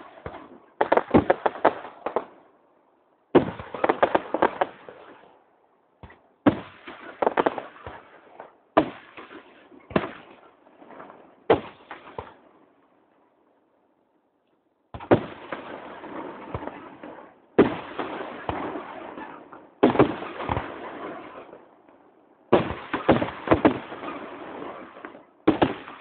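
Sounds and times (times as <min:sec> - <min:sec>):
fireworks bangs and crackles: 0:00.0 - 0:02.4, 0:03.3 - 0:05.3, 0:06.0 - 0:12.5, 0:15.0 - 0:26.0.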